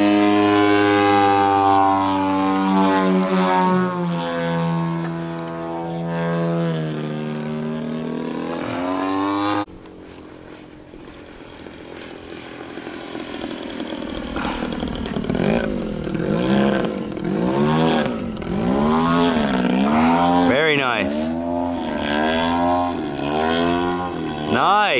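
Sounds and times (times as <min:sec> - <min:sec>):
model airplane engine: 0:00.0 - 0:24.9.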